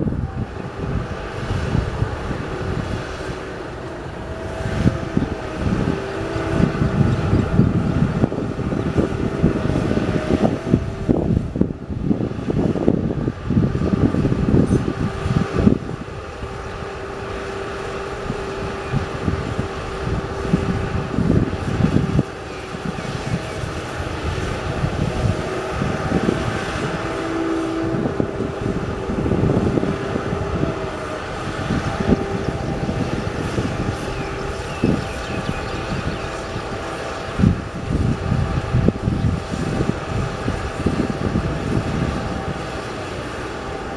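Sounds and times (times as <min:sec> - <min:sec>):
heavy machinery engine droning: 0:00.0 - 0:43.9
wind buffeting microphone: 0:00.0 - 0:43.9.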